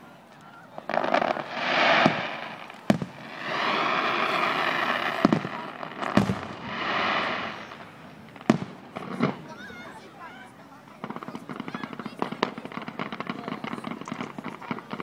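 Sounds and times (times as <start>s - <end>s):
fireworks bangs: 0.3s - 15.0s
hissing crackling rush: 0.3s - 15.0s.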